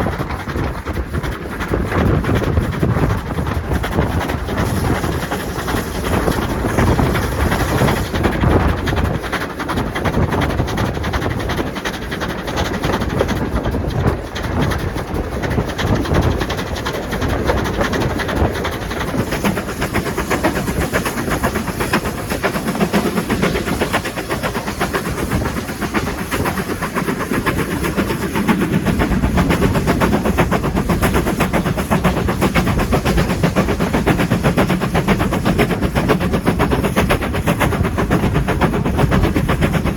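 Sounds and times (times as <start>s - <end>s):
train clattering: 0.0s - 39.9s.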